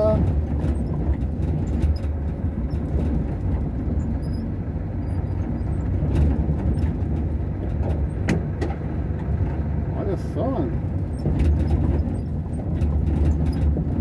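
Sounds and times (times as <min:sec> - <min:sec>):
small knocks and rattles: 0:00.0 - 0:09.7, 0:10.9 - 0:14.0
engine and road rumble: 0:00.0 - 0:14.0.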